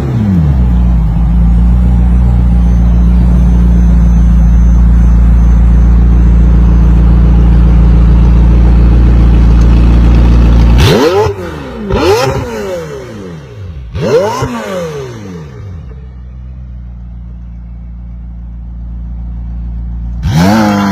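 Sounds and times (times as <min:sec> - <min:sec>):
car engine revving: 0:00.0 - 0:16.0, 0:20.0 - 0:20.9.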